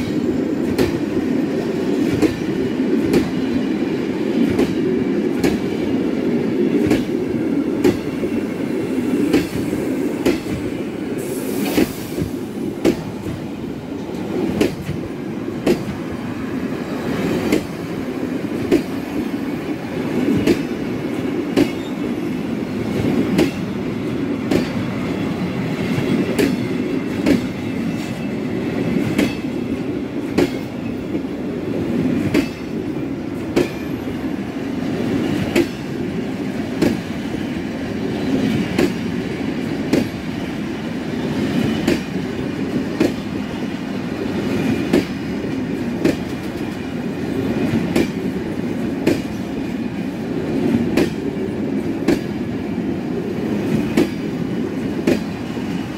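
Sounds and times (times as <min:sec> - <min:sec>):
freight train rumble: 0:00.0 - 0:55.9.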